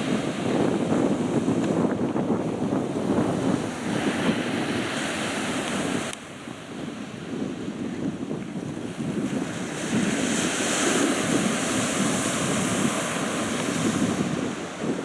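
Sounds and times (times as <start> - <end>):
sea waves washing on shore: 0.0 - 15.0
wind gusting on microphone: 0.0 - 15.0.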